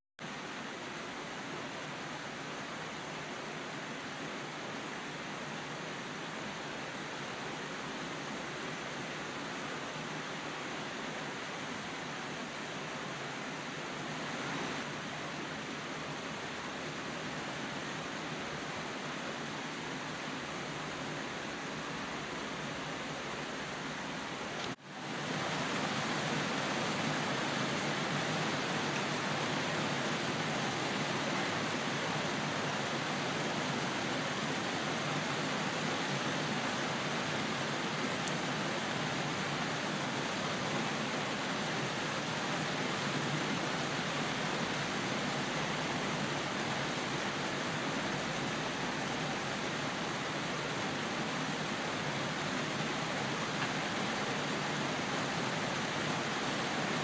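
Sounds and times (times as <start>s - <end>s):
heavy rain falling: 0.2s - 57.0s.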